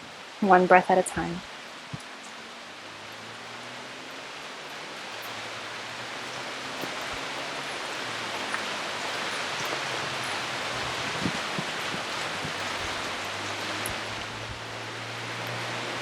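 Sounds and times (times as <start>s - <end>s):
rain falling on foliage: 0.0s - 16.0s.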